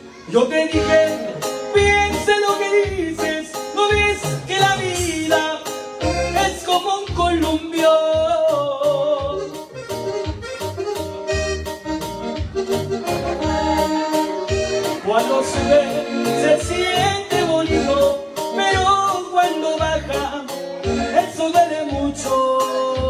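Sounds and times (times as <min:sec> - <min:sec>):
accordion-led band playing: 0:00.0 - 0:23.0
bass and drum beat: 0:00.8 - 0:23.0.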